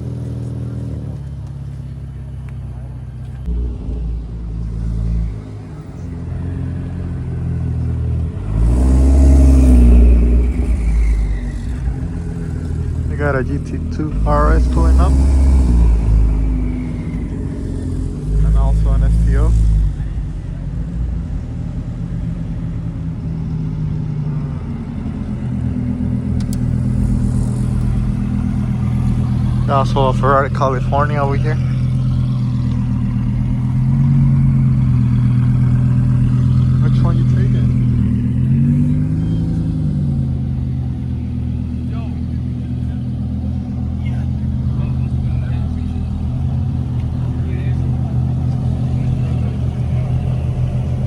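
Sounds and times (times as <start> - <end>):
sports car engine rumbling: 0.0 - 51.0.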